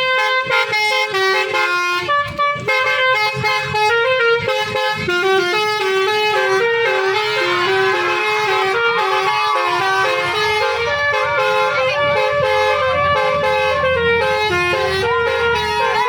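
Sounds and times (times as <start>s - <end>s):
musical air horn melody: 0.0s - 16.0s.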